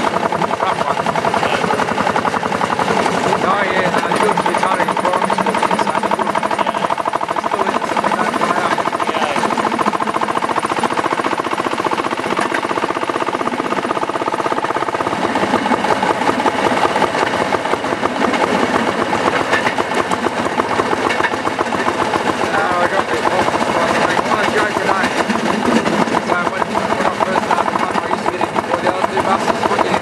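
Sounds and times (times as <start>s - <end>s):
small engine running: 0.0s - 30.0s
steady whine: 0.0s - 30.0s.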